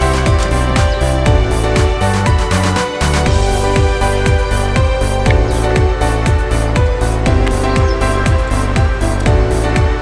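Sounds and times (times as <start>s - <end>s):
kick drum beat: 0.0s - 10.0s.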